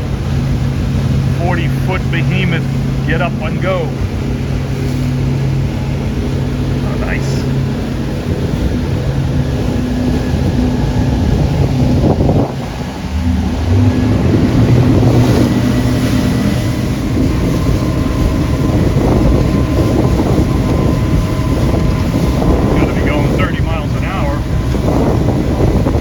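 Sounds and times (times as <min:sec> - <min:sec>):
motorboat engines running: 0:00.0 - 0:26.0
water rushing past hull: 0:00.0 - 0:26.0
wind buffeting microphone: 0:00.0 - 0:26.0.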